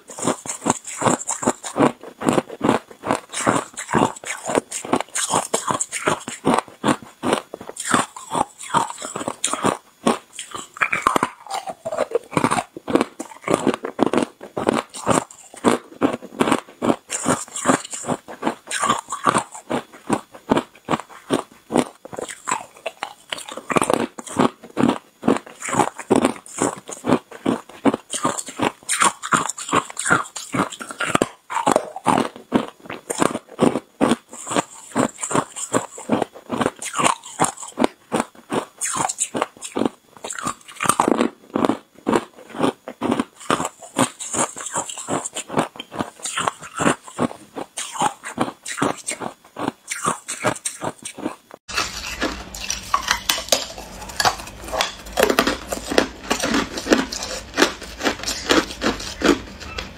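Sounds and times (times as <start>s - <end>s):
ice crunching between teeth: 0.0s - 59.9s
low steady hum: 0.0s - 59.9s.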